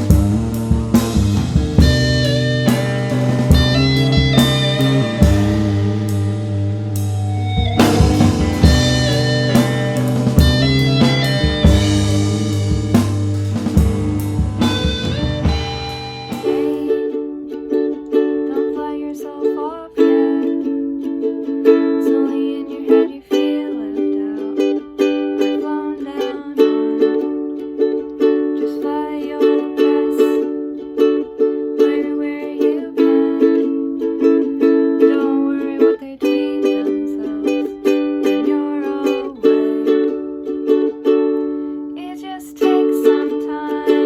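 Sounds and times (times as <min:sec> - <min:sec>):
acoustic string instrument strumming: 0:00.0 - 0:44.0.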